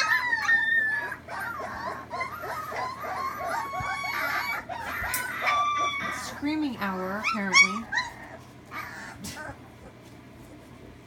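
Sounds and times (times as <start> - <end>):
puppies crying and yelping: 0.0 - 10.6.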